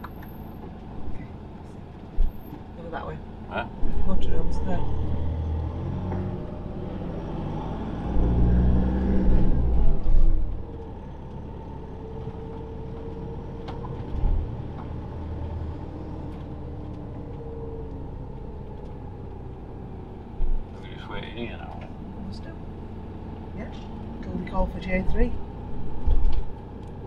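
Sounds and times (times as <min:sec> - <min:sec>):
engine and road noise: 0:00.0 - 0:27.0.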